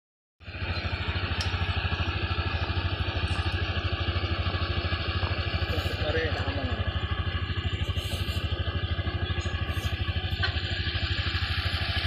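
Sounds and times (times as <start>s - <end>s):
motorcycle engine idling: 0.4s - 12.0s.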